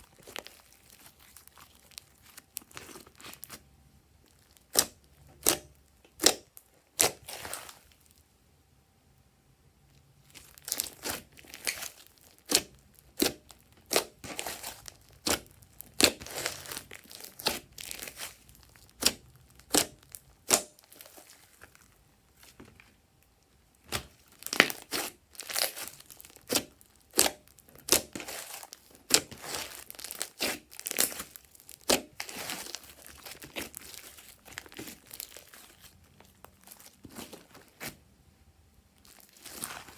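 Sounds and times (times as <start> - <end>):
slime popping and crackling: 0.0 - 3.6, 4.3 - 8.2, 10.3 - 22.6, 23.7 - 38.0, 39.0 - 39.9.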